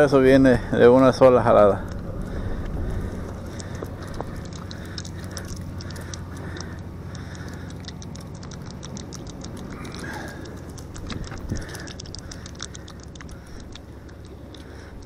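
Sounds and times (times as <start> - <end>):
steady low hum: 0.0 - 15.0
gloved hands handling fish: 1.8 - 15.0.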